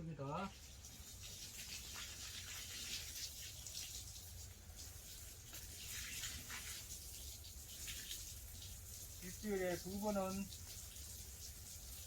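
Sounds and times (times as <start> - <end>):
water spraying from hose: 0.2 - 12.0.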